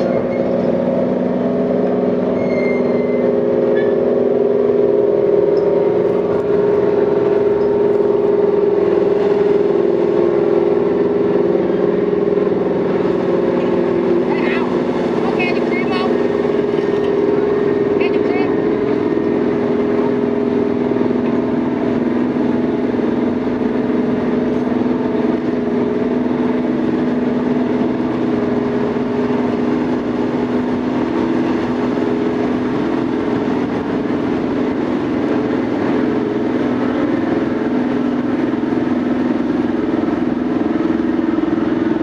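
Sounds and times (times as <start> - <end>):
diesel engine droning hum: 0.0 - 42.0.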